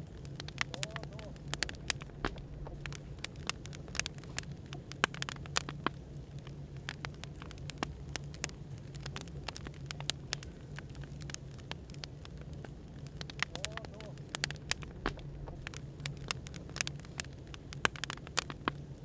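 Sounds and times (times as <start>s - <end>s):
burning firewood crackling: 0.0s - 19.0s
low background hum: 0.0s - 19.0s.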